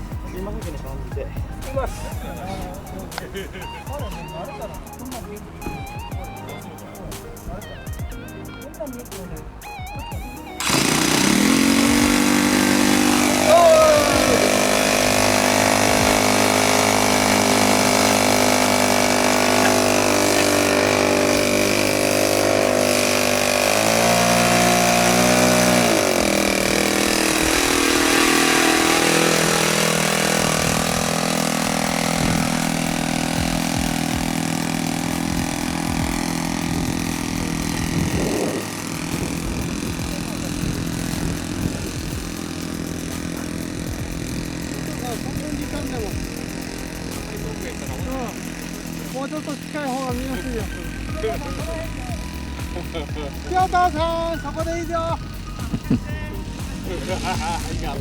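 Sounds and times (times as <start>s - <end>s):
model aircraft engine running: 0.0s - 58.0s.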